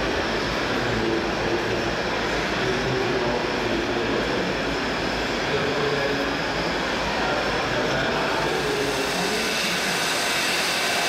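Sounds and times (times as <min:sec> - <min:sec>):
model machines running: 0:00.0 - 0:11.0.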